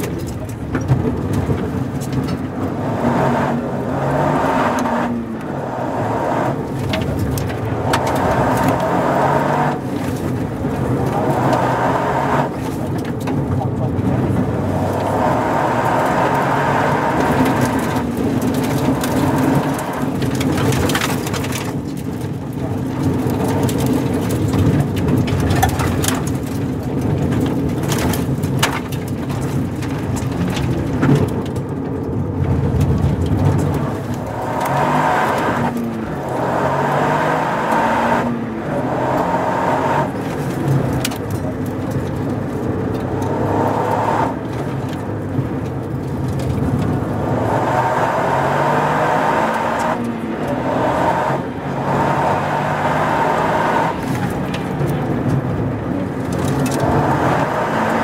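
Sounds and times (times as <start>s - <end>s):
gravel clattering on underbody: 0.0s - 3.9s, 6.6s - 47.9s, 48.5s - 58.0s
car engine accelerating: 0.0s - 58.0s.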